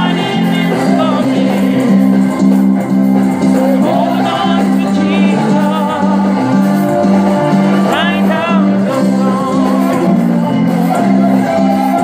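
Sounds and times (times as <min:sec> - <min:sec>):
band with repeating bass line: 0:00.0 - 0:12.0
person singing gospel: 0:00.0 - 0:12.0.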